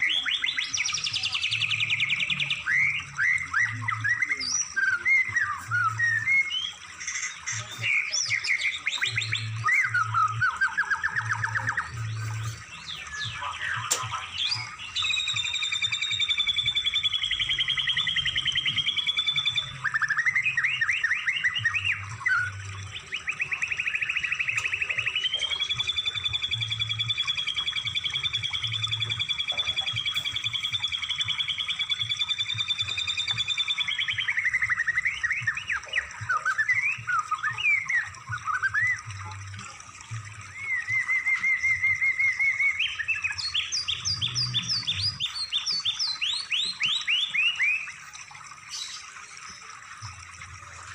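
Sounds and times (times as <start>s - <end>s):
songbird trills and whistles: 0.0s - 50.9s.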